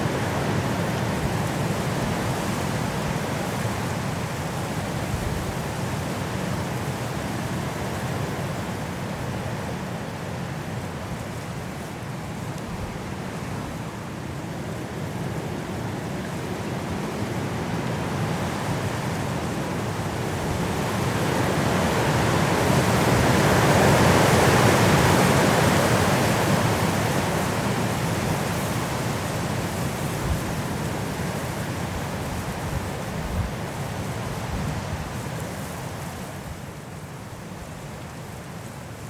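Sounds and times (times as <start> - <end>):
strong wind through trees: 0.0 - 39.0.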